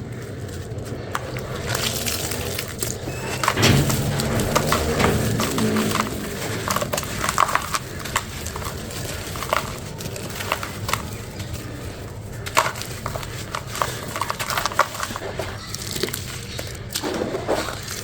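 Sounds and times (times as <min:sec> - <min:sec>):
crumble block crunching: 0:00.0 - 0:18.0.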